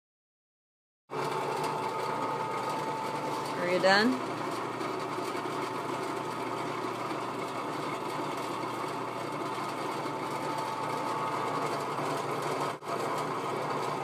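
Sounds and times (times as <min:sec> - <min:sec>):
drill press motor whining: 0:01.2 - 0:14.0.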